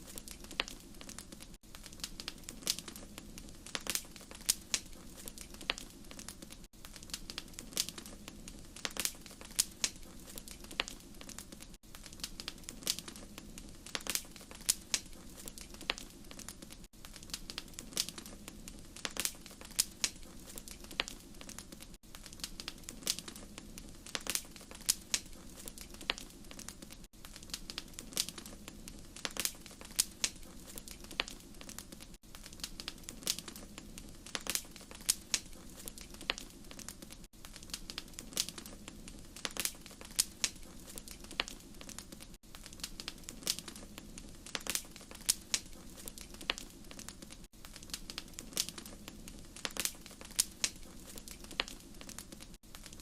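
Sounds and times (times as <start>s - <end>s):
low rumble of flame: 0.0s - 53.0s
wood fire popping and snapping: 0.0s - 53.0s.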